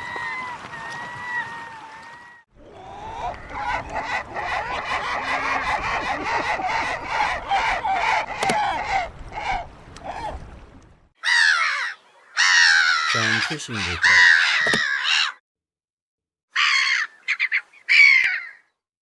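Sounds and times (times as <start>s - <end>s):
gulls squawking: 0.0s - 10.4s, 11.2s - 15.4s, 16.5s - 18.7s.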